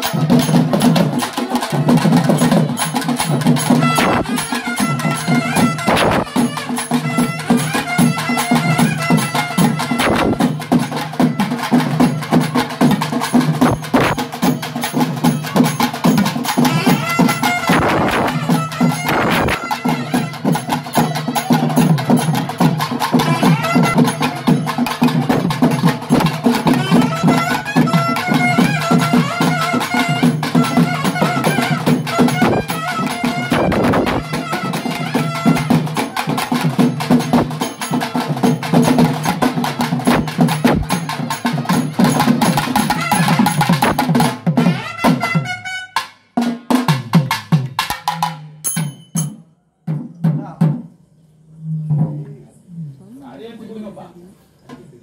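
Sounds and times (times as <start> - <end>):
drum ensemble playing fast strokes: 0.0 - 50.9.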